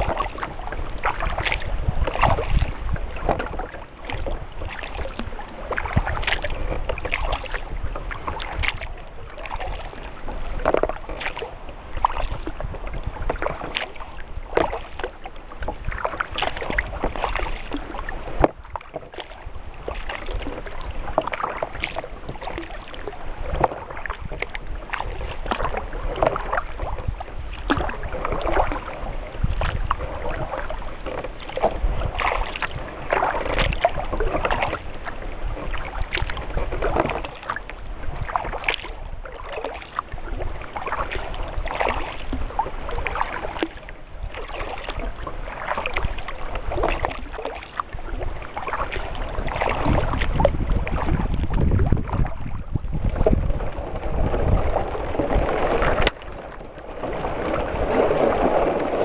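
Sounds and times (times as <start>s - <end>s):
paddle blades splashing and dripping: 0.0s - 59.0s
water lapping along hull: 0.0s - 59.0s.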